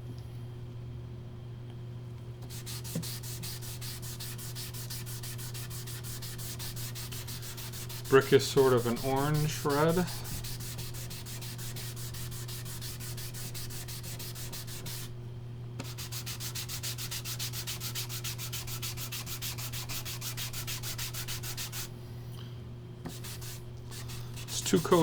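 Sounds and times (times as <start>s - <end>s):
steady low hum: 0.0s - 25.0s
applicator rubbing on wood: 2.5s - 15.1s, 15.8s - 21.9s, 23.1s - 25.0s.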